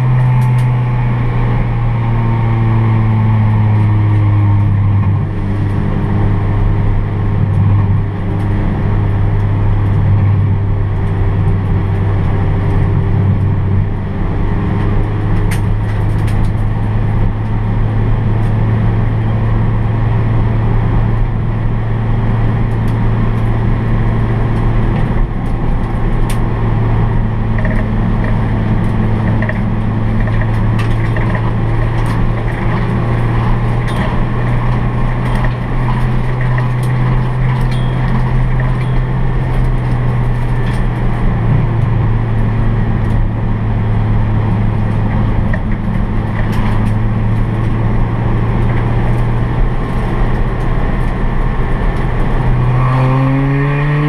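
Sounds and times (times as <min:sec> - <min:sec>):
race car engine in cabin: 0:00.0 - 0:54.0
tyre and road noise: 0:00.0 - 0:54.0.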